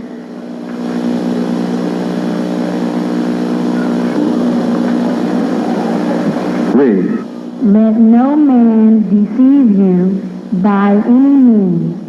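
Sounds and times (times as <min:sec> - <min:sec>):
droning hum of held tones: 0:00.0 - 0:12.0.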